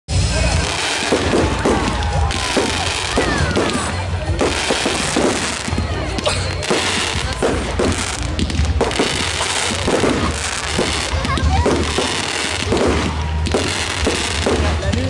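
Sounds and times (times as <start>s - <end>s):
fireworks bangs and crackling: 0.1s - 15.0s
music playing: 0.1s - 15.0s.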